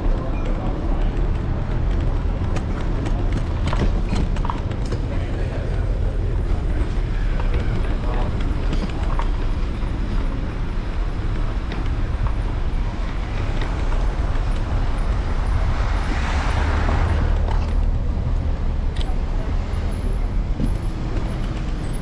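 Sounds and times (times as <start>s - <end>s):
city street traffic: 0.0s - 22.0s
passing vehicle: 0.0s - 22.0s
wind and road rumble: 0.0s - 22.0s.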